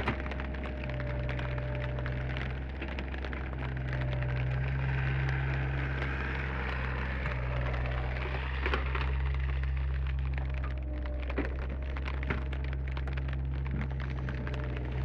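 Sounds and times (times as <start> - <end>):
crackles and ticks: 0.0 - 15.0
excavator diesel engine running: 0.0 - 15.0.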